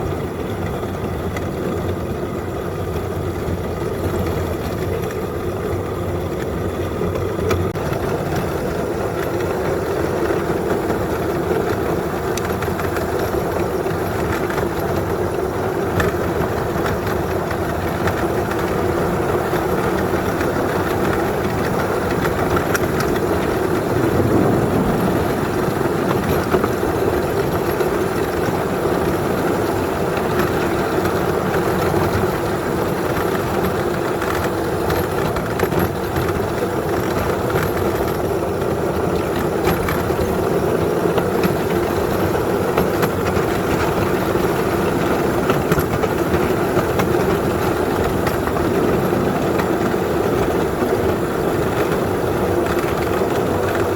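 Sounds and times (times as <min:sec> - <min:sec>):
small locomotive engine: 0:00.0 - 0:53.9
wheels rumbling on rails: 0:00.0 - 0:53.9.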